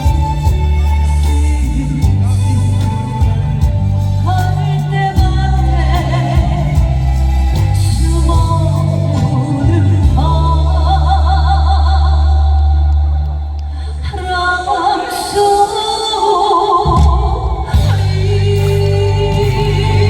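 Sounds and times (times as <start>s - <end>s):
backing track with bass line: 0.0s - 13.8s, 16.9s - 20.0s
person singing with vibrato: 0.0s - 20.0s.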